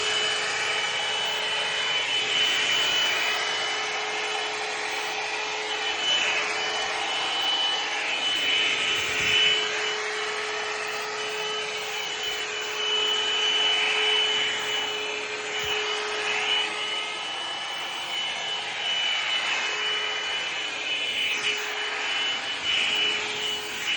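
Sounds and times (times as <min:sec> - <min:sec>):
hair dryer running: 0:00.0 - 0:23.9.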